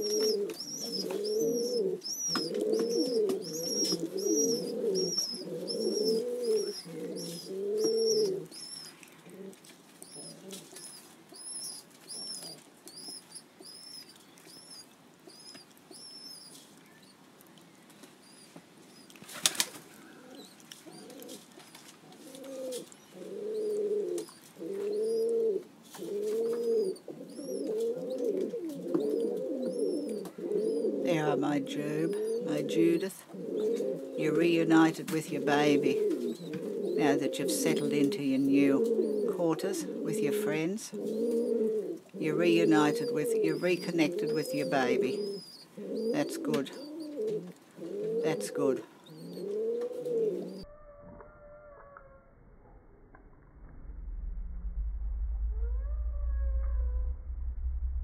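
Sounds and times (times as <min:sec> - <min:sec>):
pigeons cooing: 0:00.0 - 0:17.0, 0:18.2 - 0:50.7.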